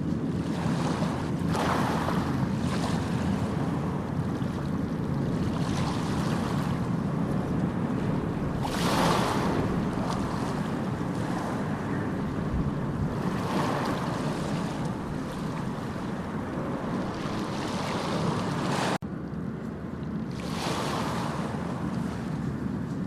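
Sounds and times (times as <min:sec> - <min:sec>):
ocean waves washing onto shore: 0:00.0 - 0:19.0, 0:20.1 - 0:23.0.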